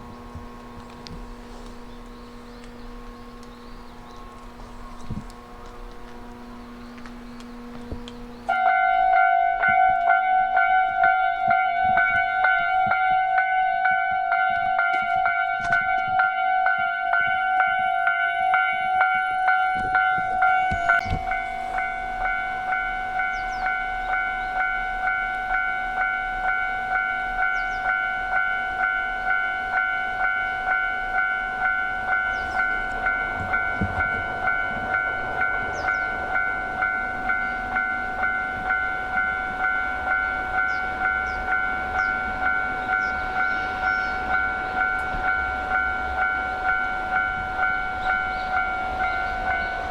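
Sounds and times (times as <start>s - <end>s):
freight train rumbling past: 0.0s - 49.9s
level crossing warning bell: 0.0s - 49.9s.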